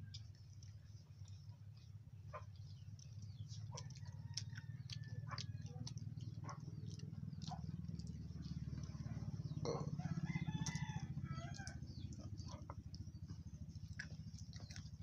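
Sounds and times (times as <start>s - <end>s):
low steady hum: 0.0s - 15.0s
person chewing sticky food: 0.0s - 15.0s
small birds calling: 0.0s - 15.0s.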